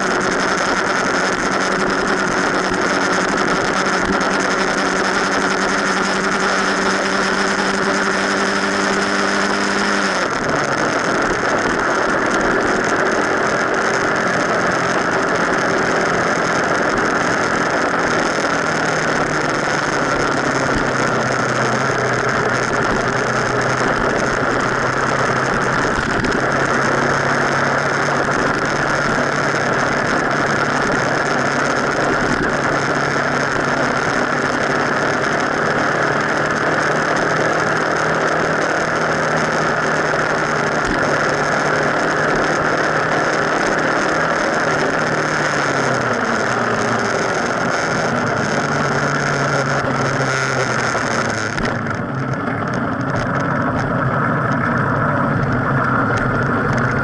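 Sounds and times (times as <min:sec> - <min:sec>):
motorcycle engine running: 0:00.0 - 0:57.0
wind and road rush: 0:00.0 - 0:57.0.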